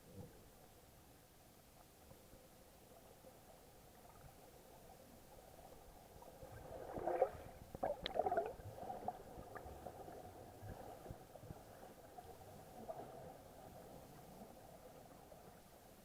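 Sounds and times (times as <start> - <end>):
muffled water gurgling: 0.0 - 16.0.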